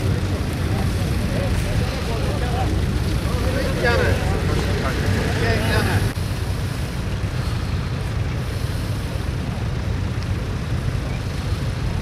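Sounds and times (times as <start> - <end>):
tractor engine rumbling: 0.0 - 12.0.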